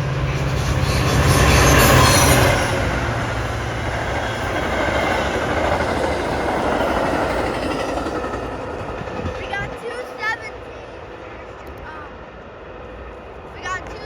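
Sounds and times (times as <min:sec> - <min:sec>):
train cars rushing past: 0:00.0 - 0:14.0
train engine rumble: 0:00.0 - 0:14.0.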